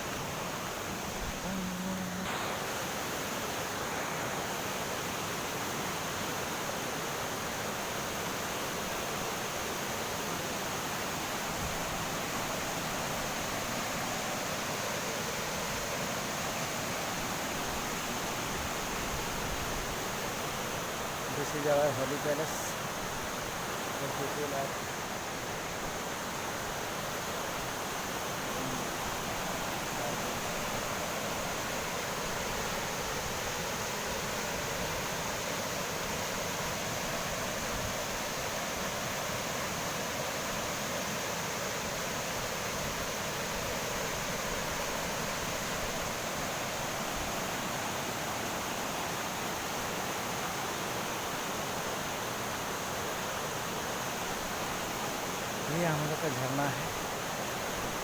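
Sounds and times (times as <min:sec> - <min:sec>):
river rushing over a waterfall: 0:00.0 - 0:58.0.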